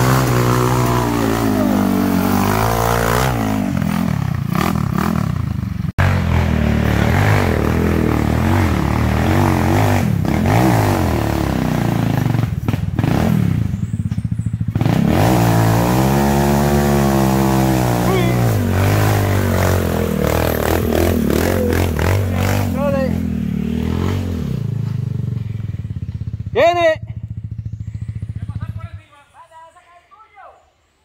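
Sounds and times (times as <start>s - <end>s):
buggy engine revving: 0.0s - 29.0s.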